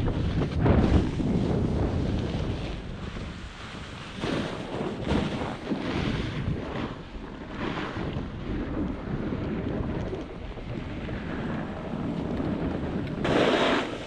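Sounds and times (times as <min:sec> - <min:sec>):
snowboard scraping over snow: 0:00.0 - 0:14.0
wind buffeting microphone: 0:00.0 - 0:14.0.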